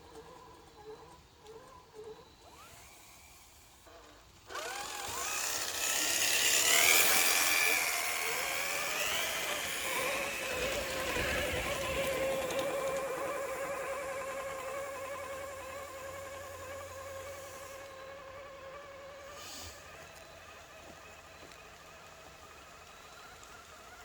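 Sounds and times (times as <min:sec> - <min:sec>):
electric motor and gears whining: 0:00.0 - 0:24.0.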